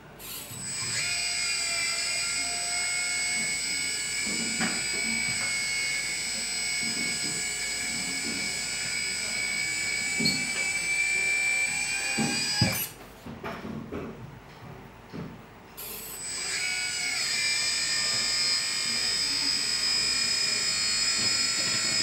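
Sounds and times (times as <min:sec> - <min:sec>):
hydraulic pump whining: 0:00.2 - 0:13.0, 0:15.9 - 0:22.0.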